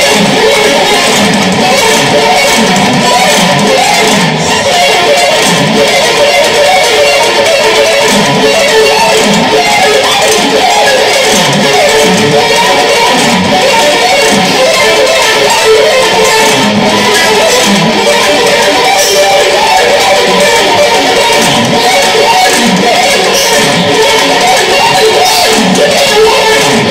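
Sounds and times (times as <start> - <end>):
fast electric guitar shredding: 0.0 - 26.9.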